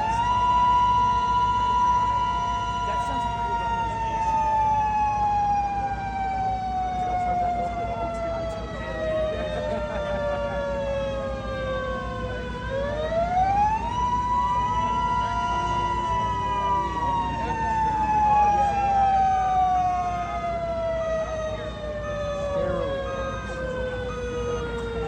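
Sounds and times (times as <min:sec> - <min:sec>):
mechanical warning siren: 0:00.0 - 0:25.0.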